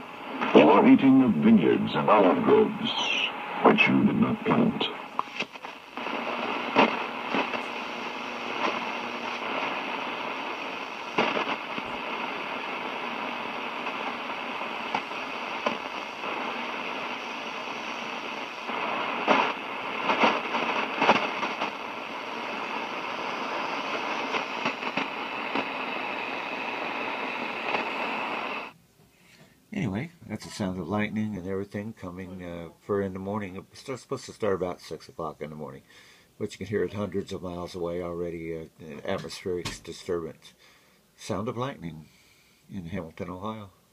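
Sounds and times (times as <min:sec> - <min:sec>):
radio static hiss: 0:00.0 - 0:28.8, 0:29.7 - 0:43.9.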